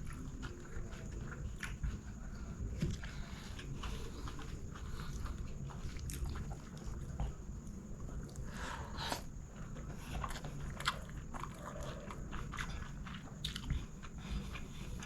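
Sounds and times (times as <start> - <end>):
close chewing and crunching: 0.0 - 15.0.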